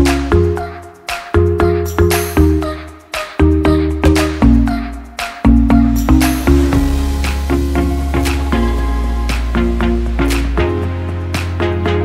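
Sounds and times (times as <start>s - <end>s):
music with struck notes and bass: 0.0s - 12.0s.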